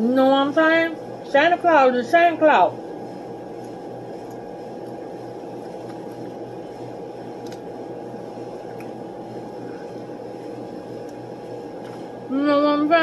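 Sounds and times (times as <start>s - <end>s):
electrical and ventilation hum: 0.0s - 13.0s.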